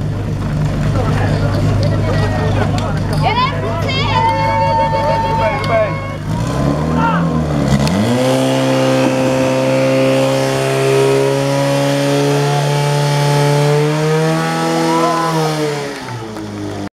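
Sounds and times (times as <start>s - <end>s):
pump engine running: 0.0s - 16.9s.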